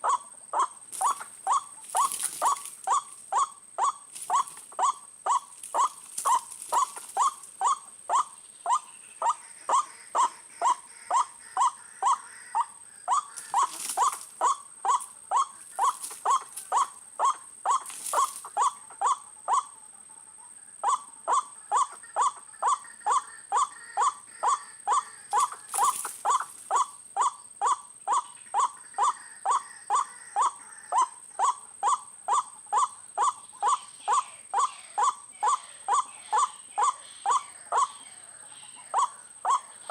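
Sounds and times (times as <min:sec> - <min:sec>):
bird harsh calls: 0:00.0 - 0:19.8, 0:20.8 - 0:39.9.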